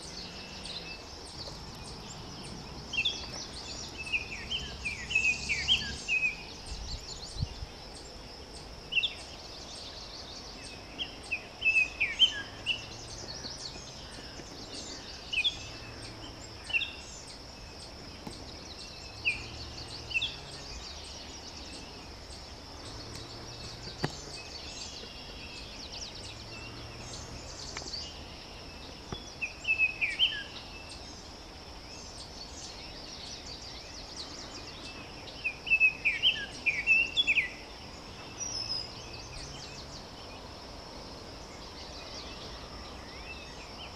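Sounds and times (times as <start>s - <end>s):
birds chirping: 0.0s - 43.9s
high-pitched background hiss: 0.0s - 43.9s.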